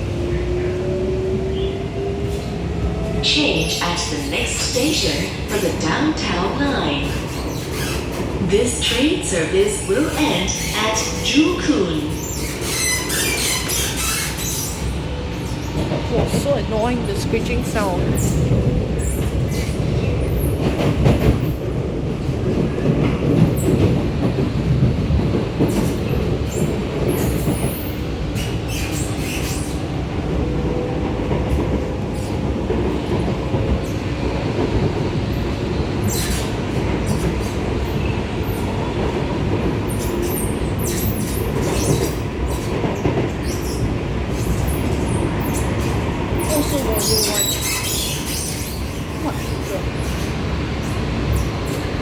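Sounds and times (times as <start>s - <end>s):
train wheels rumbling on track: 0.0s - 52.0s.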